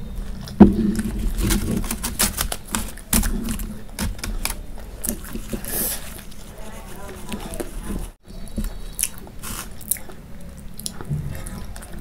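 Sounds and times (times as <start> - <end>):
close chewing: 0.1 - 12.0.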